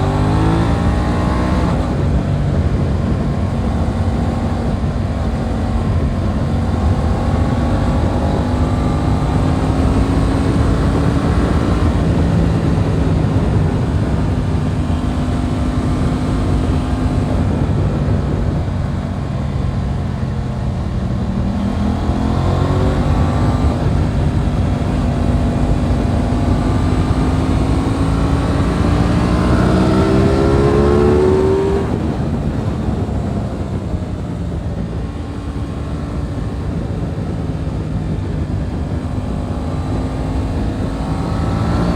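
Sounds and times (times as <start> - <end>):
motorcycle engine revving: 0.0 - 41.9
wind rush: 0.0 - 41.9.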